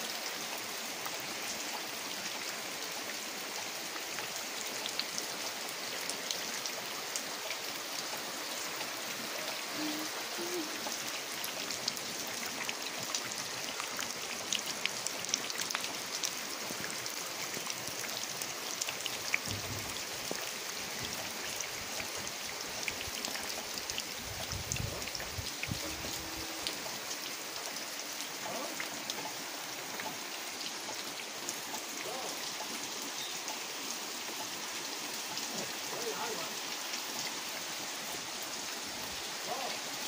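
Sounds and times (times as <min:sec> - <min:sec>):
heavy rain pouring on mud: 0:00.0 - 0:40.0
runoff water flowing: 0:00.0 - 0:40.0.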